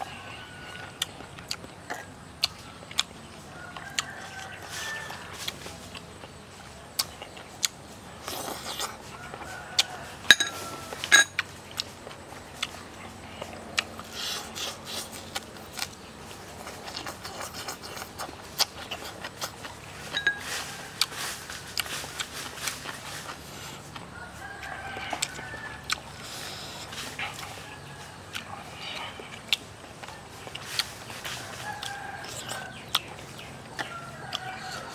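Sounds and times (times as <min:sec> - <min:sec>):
chewing and crunching: 0:00.0 - 0:34.9
chickens clucking and crowing: 0:00.0 - 0:34.9.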